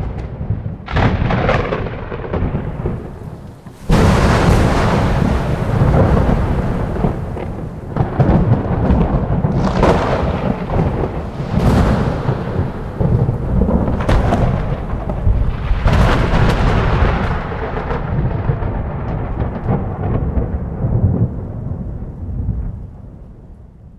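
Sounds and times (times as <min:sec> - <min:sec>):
thunder rumbling and crackling: 0:00.0 - 0:23.9.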